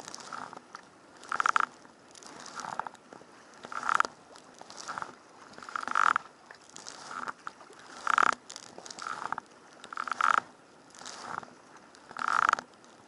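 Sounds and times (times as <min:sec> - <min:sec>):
kayak paddle splashing in water: 0:00.0 - 0:13.0.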